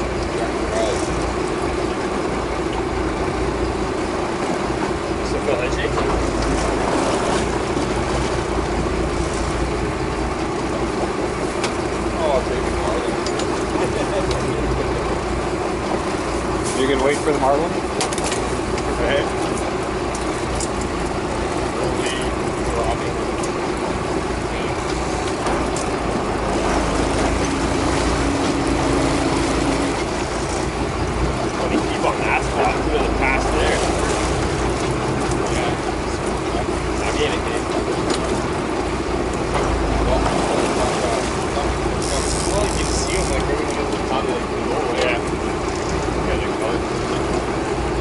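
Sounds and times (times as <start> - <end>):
boat engine droning: 0.0 - 48.0
water noise: 0.0 - 48.0
wind: 0.0 - 48.0.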